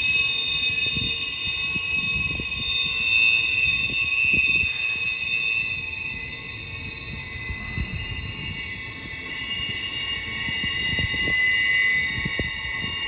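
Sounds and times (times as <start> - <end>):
train wheels squealing on rails: 0.0 - 13.0.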